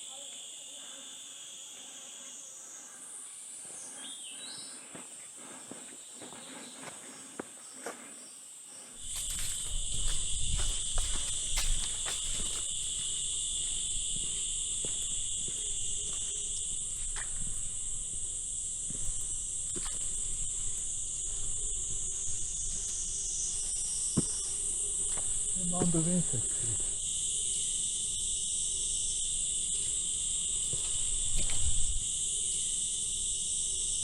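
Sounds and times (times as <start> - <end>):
jungle insects chorus: 0.0 - 34.0.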